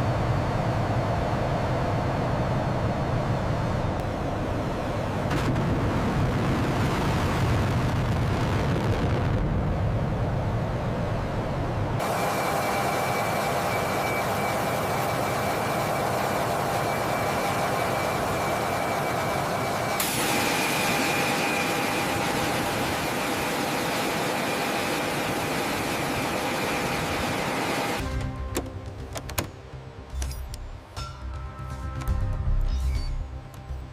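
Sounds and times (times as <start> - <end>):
fighter jet engines running: 0.0 - 30.9.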